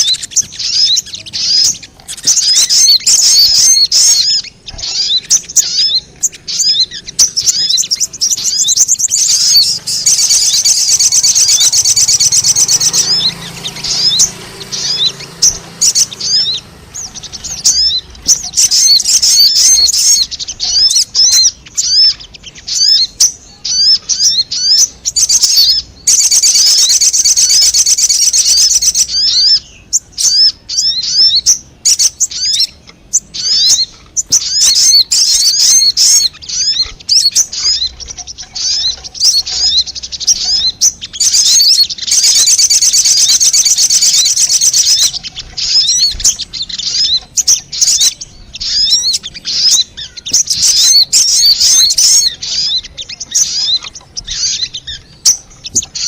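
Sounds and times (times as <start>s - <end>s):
fast rattling bird trills: 0.0s - 56.0s
high bird chipping notes: 0.0s - 56.0s.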